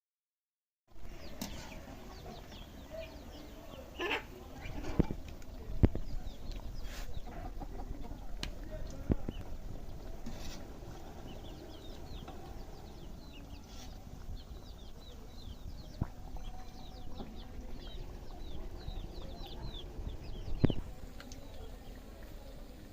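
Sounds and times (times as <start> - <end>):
birds chirping: 1.0 - 22.9
low clucking murmur: 1.2 - 22.9.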